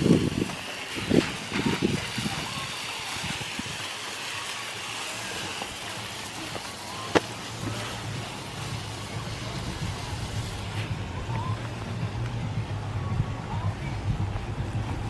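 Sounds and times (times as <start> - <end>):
hose spray hissing: 0.0 - 12.8.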